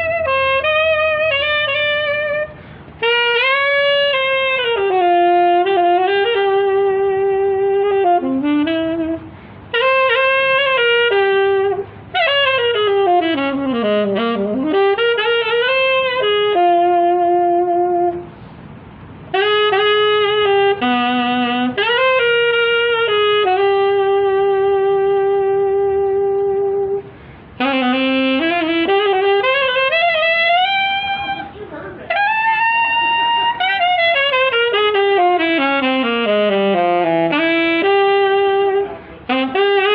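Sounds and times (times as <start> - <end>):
solo saxophone ballad: 0.0 - 39.9.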